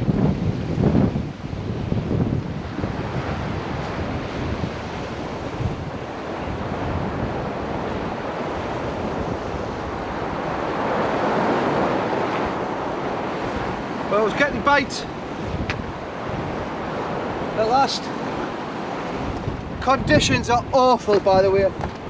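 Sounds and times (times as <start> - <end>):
gusty wind on microphone: 0.0 - 22.0.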